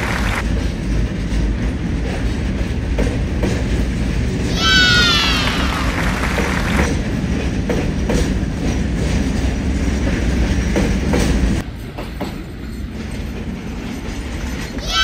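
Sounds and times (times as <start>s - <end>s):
train wheels rumbling on rails: 0.0s - 15.0s
wheels clicking over rail joints: 0.1s - 4.5s, 6.2s - 15.0s.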